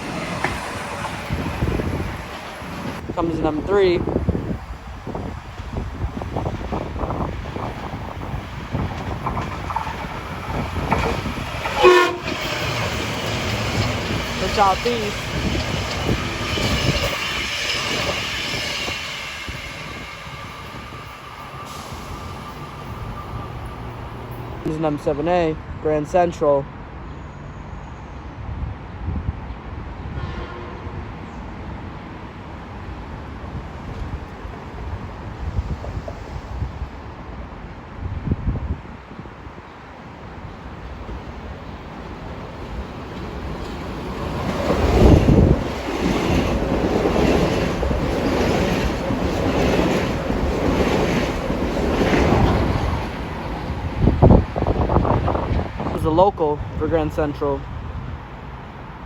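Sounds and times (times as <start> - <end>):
wind buffeting microphone: 0.0 - 24.7, 33.4 - 59.0
electric train running by: 0.0 - 25.1, 31.6 - 56.9.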